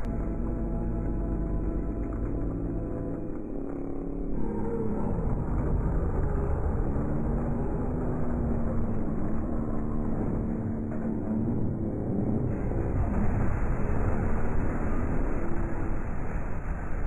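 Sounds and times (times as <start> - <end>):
low rumble of burning wreckage: 0.0 - 17.0
steady low drone: 0.0 - 17.0.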